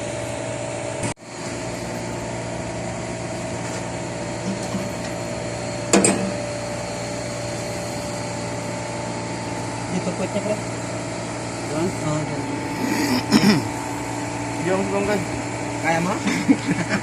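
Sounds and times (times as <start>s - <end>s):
air conditioning machinery hum: 0.0s - 17.0s.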